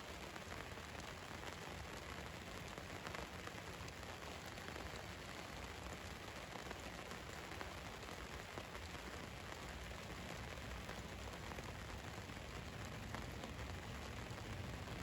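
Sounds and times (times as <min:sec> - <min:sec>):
rain on a vehicle roof: 0:00.0 - 0:15.0.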